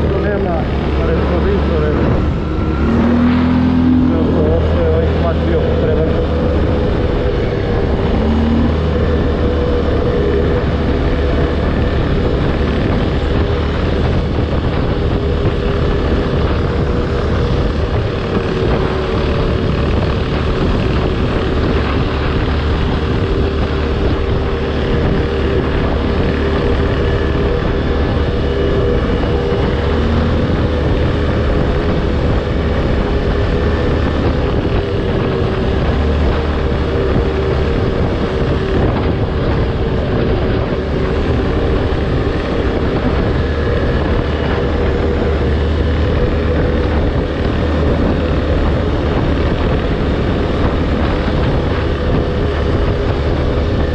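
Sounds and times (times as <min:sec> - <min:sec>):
atv engine running: 0:00.0 - 0:53.9
rush of riding noise: 0:00.0 - 0:53.9.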